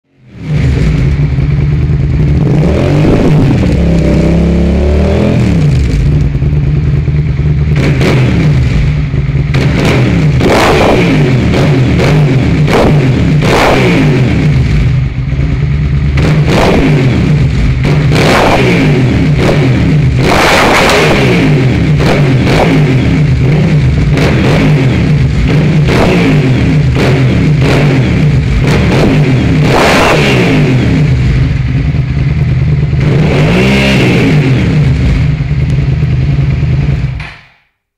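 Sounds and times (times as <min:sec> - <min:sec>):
motorcycle engine throttle blips: 0:00.3 - 0:37.6.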